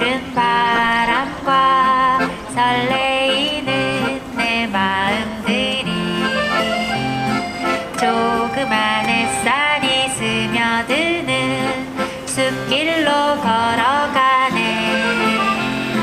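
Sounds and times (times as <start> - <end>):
accordion playing lively melody: 0.0 - 16.0.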